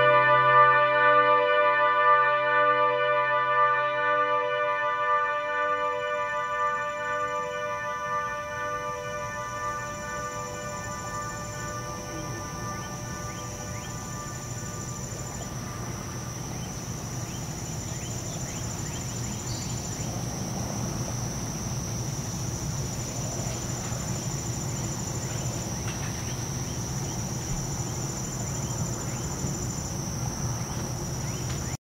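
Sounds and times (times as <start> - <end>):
crickets trilling: 5.1 - 31.8.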